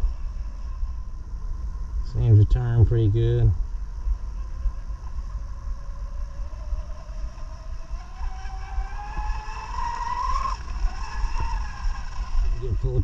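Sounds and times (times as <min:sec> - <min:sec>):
rc boat motors whining: 0:00.0 - 0:13.0.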